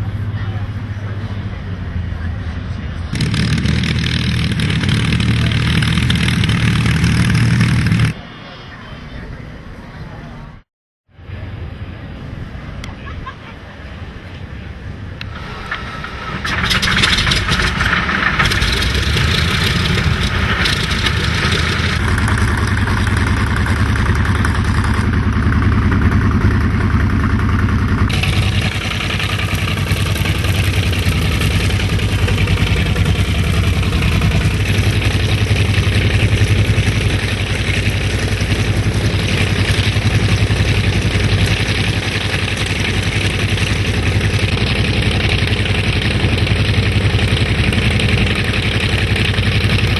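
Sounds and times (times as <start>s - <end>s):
piston aircraft engine running: 0.0s - 8.2s, 13.8s - 49.9s.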